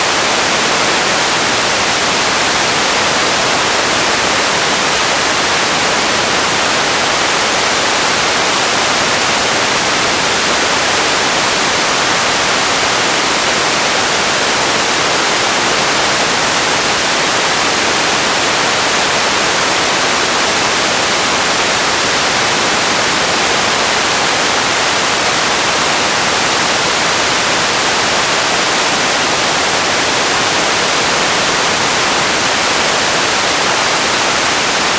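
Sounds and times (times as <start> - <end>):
static-like hiss: 0.0 - 34.9.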